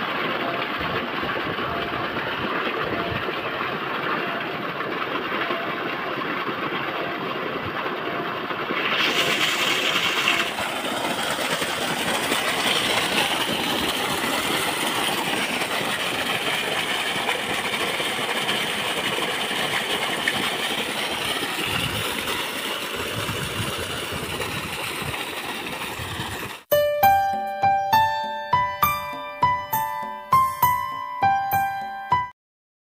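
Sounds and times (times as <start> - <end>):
water gushing and splashing: 0.0 - 26.7.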